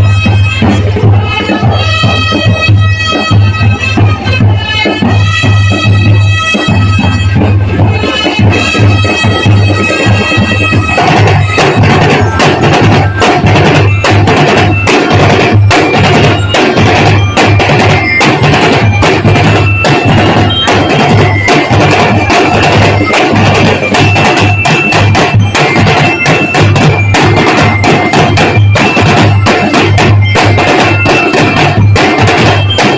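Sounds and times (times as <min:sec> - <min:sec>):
bugle melody notes: 0:00.0 - 0:32.9
rapid snare drumming: 0:00.0 - 0:32.9.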